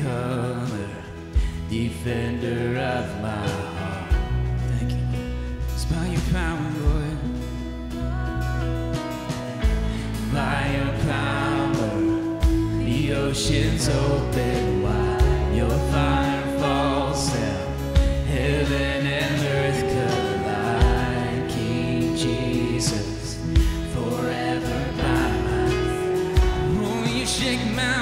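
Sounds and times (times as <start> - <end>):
voices singing gospel song: 0.0 - 28.0
band with strong beat: 3.5 - 28.0.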